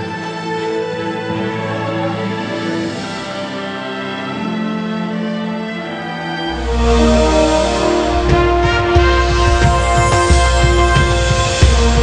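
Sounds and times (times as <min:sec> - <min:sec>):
theme music with deep bass: 0:00.0 - 0:12.0.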